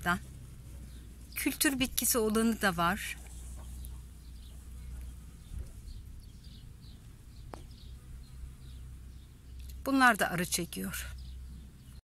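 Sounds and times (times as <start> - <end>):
distant birds chirping: 0.0 - 12.0
low steady rumble: 0.0 - 12.0.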